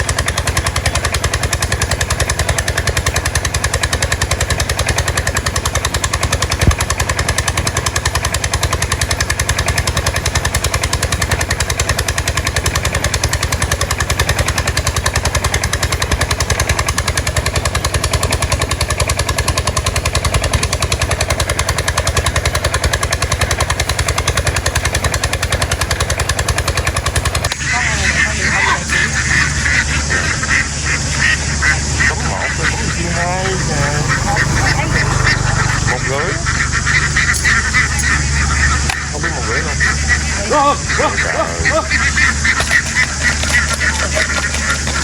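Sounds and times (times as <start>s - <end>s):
boat engine chugging: 0.0s - 45.0s.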